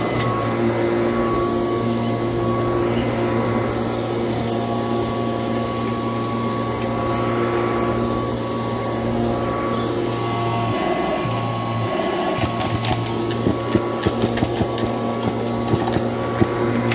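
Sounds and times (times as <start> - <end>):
debris crackling in vacuum: 0.0 - 16.9
vacuum cleaner motor hum: 0.0 - 16.9.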